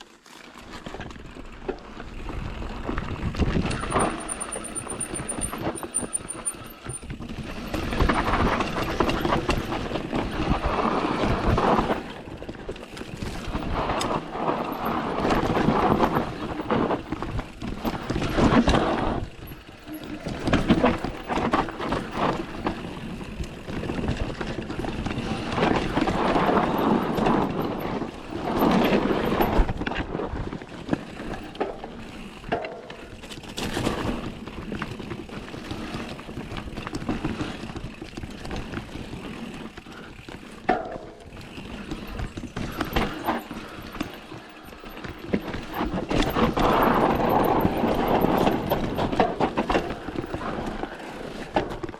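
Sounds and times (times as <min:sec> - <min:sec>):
tyres on dirt and rock: 0:00.0 - 0:51.9
bike clattering over bumps: 0:00.7 - 0:51.9.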